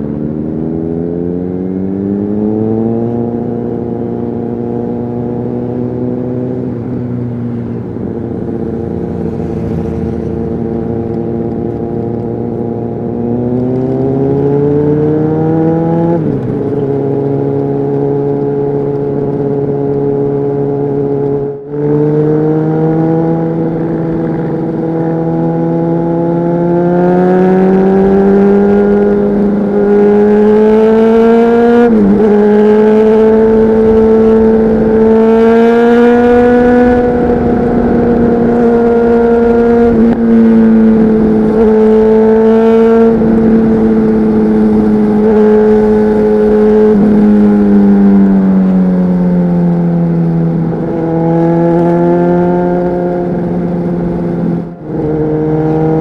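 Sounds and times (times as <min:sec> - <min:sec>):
motorcycle engine under way: 0:00.0 - 0:56.0.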